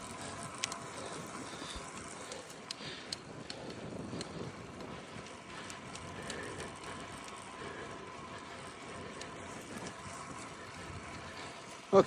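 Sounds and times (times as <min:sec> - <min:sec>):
bicycle mechanical clicks: 0:00.0 - 0:12.0.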